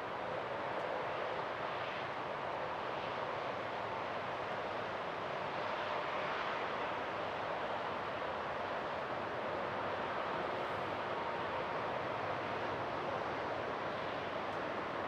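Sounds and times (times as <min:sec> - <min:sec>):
distant jet airliner engines: 0:00.0 - 0:15.0.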